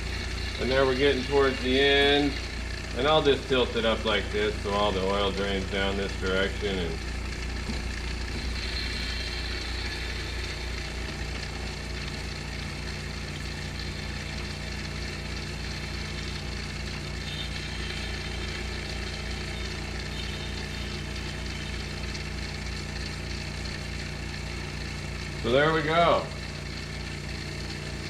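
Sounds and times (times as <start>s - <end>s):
vacuum pump humming: 0.0s - 28.0s.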